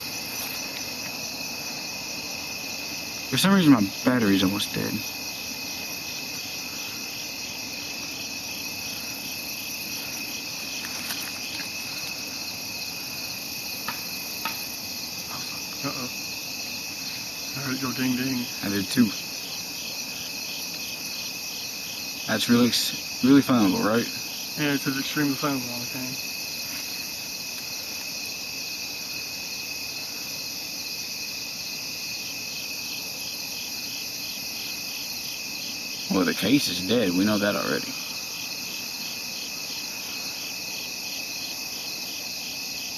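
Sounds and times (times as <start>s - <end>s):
crickets and insects chirping: 0.0s - 42.9s.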